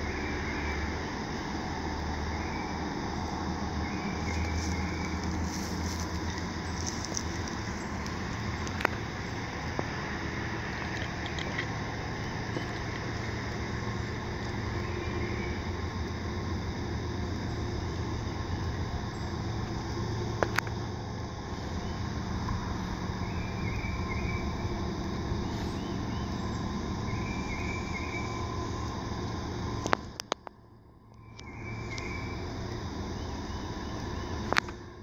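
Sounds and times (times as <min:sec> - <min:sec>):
diesel locomotives droning: 0:00.0 - 0:35.0.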